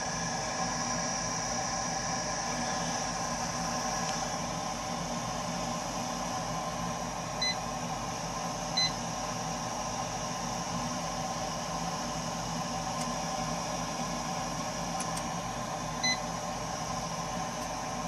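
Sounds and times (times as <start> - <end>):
gas boiler rushing with steady tones: 0.0 - 18.0.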